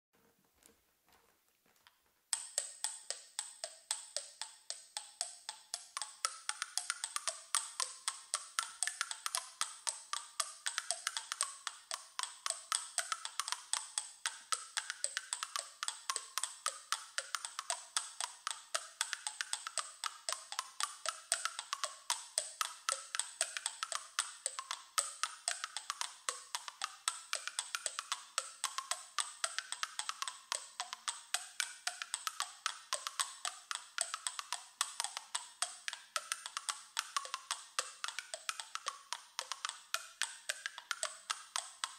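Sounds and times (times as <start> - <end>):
pebbles clicking in front of mouth: 2.3 - 41.9.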